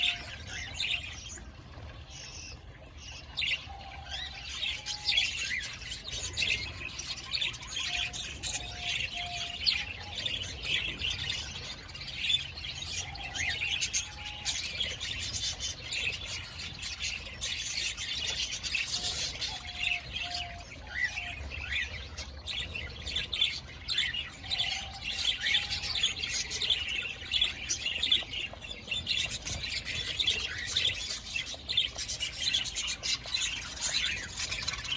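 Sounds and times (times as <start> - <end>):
parakeets chirping and chattering: 0.0 - 34.9.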